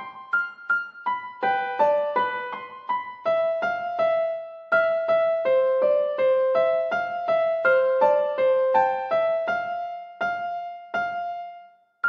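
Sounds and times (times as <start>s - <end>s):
gentle keyboard melody: 0.0s - 12.0s.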